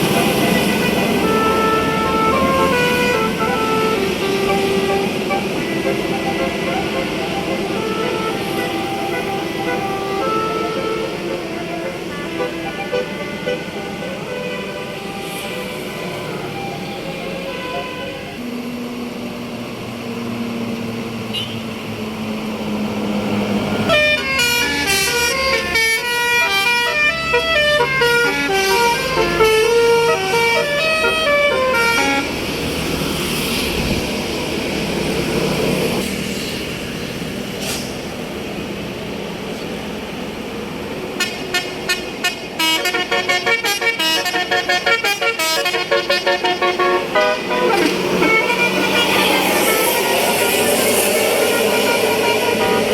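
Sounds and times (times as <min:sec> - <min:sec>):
bus multi-tone horn melody: 0:00.0 - 0:19.1, 0:21.2 - 0:21.9, 0:22.8 - 0:34.0, 0:41.0 - 0:52.9
bus engine running: 0:00.0 - 0:52.9.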